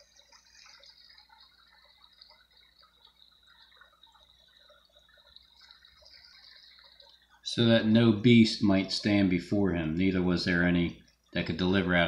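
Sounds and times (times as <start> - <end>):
faint high hiss: 0.0 - 12.0
low steady hum: 0.0 - 12.0.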